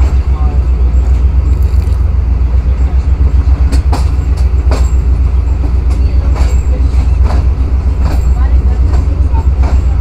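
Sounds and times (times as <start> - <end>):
train low rumble: 0.0 - 10.0.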